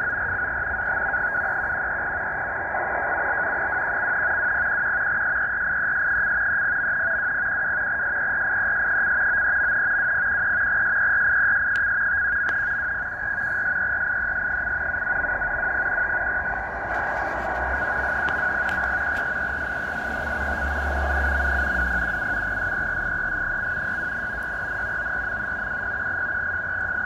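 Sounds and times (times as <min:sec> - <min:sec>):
high data tone: 0:00.0 - 0:27.0.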